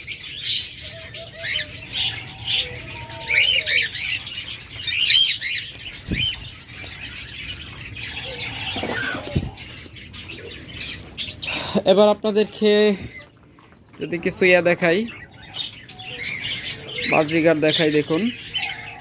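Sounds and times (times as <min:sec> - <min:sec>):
cockatiels chirping: 0:00.0 - 0:11.4, 0:14.0 - 0:19.0.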